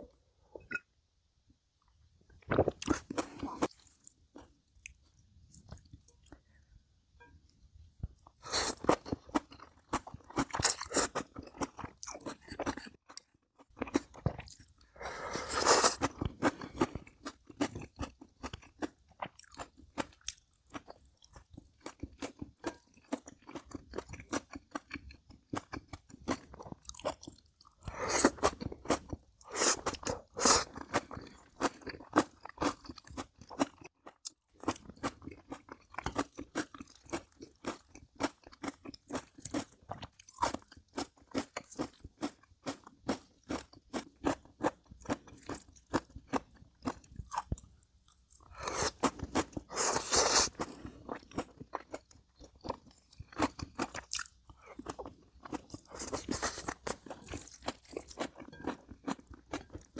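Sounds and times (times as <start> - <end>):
person chewing crunchy food: 2.3 - 6.6, 8.0 - 59.9.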